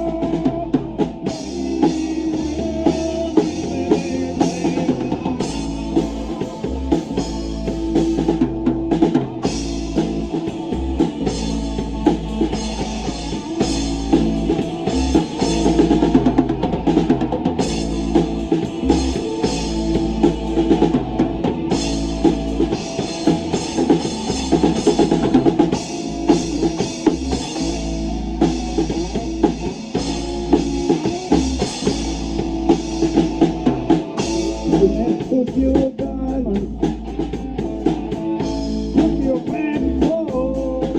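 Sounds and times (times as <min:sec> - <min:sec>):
drum kit beat: 0:00.0 - 0:40.9
rock band playing live: 0:00.0 - 0:40.9.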